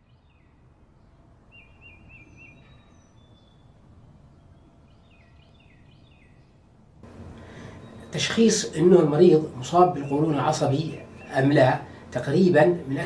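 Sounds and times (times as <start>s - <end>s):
faint birdsong: 0.0s - 13.0s
low background hiss: 0.0s - 13.0s.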